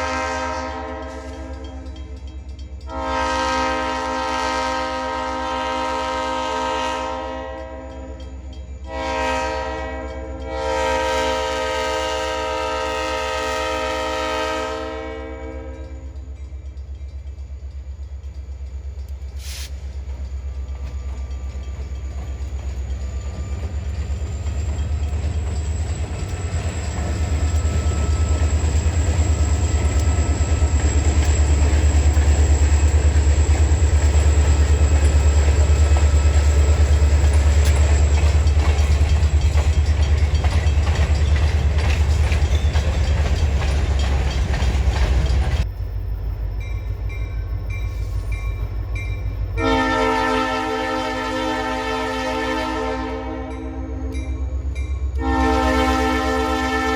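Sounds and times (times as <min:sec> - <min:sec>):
diesel locomotive engine rumble: 0:00.0 - 0:56.9.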